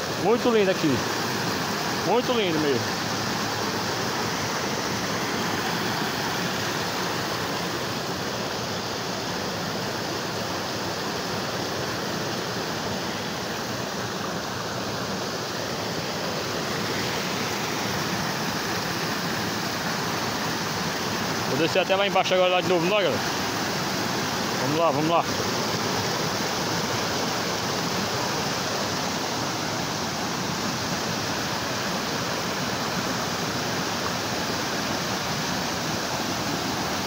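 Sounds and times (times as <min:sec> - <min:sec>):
water rushing over rocks: 0:00.0 - 0:37.0.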